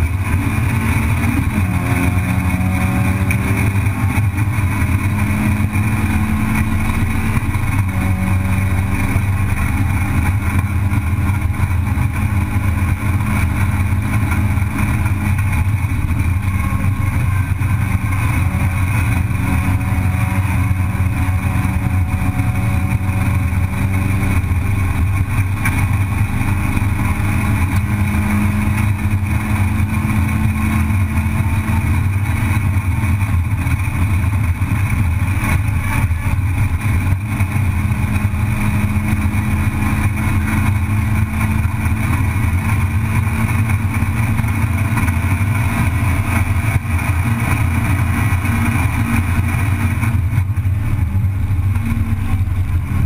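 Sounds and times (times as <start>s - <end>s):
race car engine at high revs: 0.0s - 53.0s
road and wind noise: 0.0s - 53.0s.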